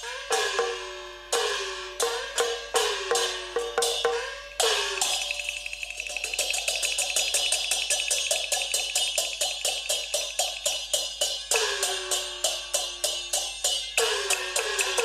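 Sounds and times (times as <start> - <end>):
wooden clapper and cymbal strokes: 0.0 - 15.0.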